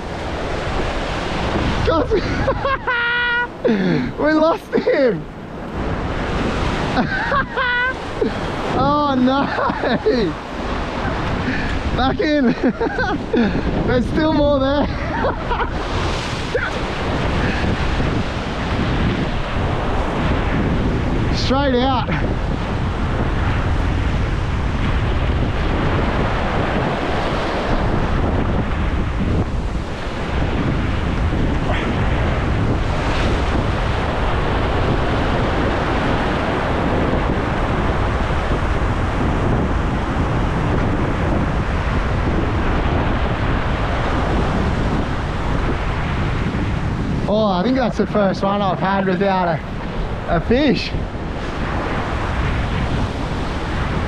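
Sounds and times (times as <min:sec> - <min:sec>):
surf breaking over rocks: 0:00.0 - 0:54.0
wind buffeting microphone: 0:00.0 - 0:54.0.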